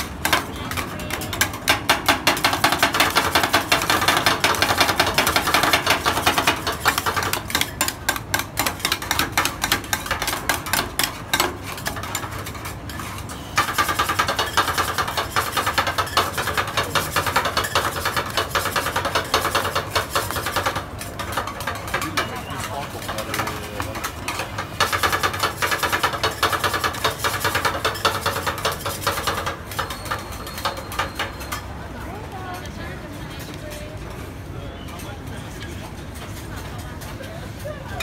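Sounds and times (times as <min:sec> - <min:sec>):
metal spatulas chopping on steel: 0:00.0 - 0:31.6.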